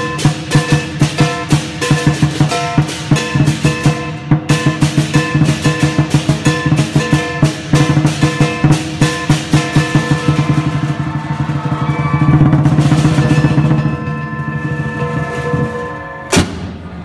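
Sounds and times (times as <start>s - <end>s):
cymbals ringing: 0.0s - 17.0s
gong: 0.0s - 17.0s
large drum beating: 0.0s - 17.0s.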